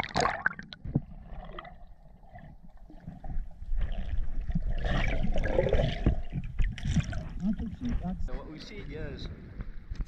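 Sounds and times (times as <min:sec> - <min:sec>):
underwater gurgling and rumble: 0:00.0 - 0:08.4.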